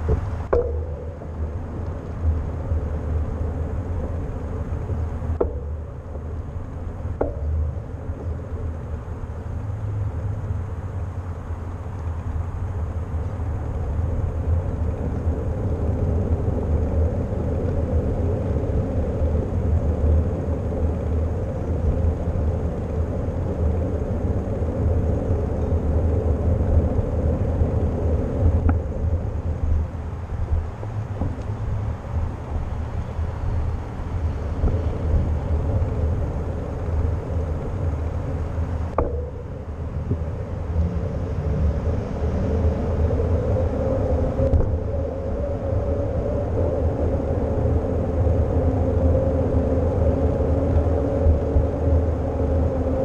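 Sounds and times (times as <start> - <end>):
tyres rolling on asphalt: 0.0 - 53.0
wind rumble on microphone: 0.0 - 53.0.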